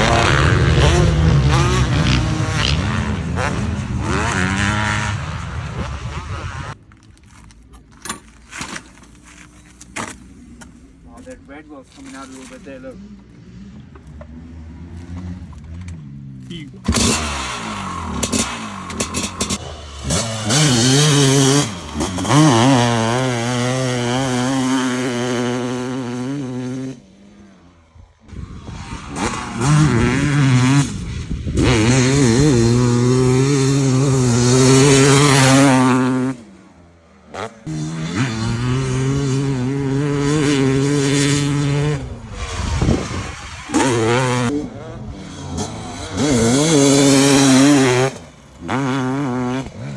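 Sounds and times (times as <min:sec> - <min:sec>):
motocross bike engine revving: 0:00.0 - 0:06.8, 0:12.0 - 0:49.9.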